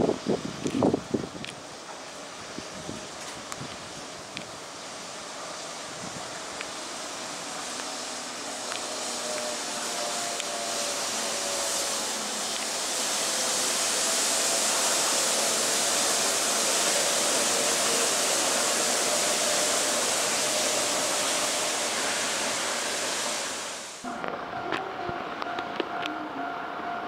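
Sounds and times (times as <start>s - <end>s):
monorail tyres hissing: 0.0s - 25.0s.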